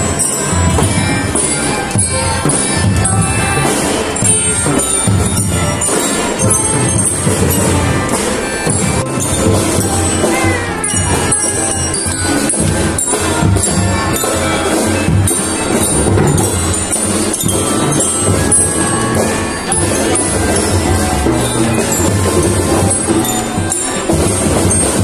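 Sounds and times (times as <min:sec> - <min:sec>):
bell lyre ringing: 0:00.0 - 0:25.0
melodicas and keyboards melody: 0:00.0 - 0:25.0
steady drum beat: 0:00.0 - 0:25.0.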